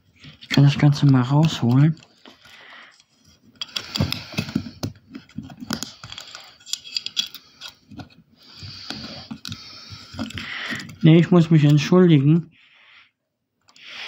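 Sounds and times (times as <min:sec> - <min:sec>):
plastic box clicks and scraping: 0:00.2 - 0:11.8.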